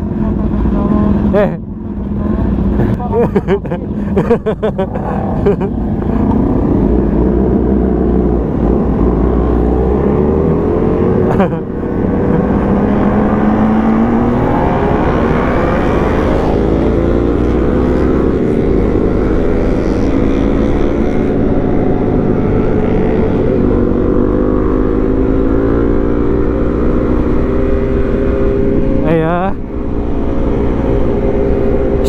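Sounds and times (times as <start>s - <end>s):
motorcycle engine accelerating: 0.0s - 32.0s
wind rumble on microphone: 5.3s - 32.0s.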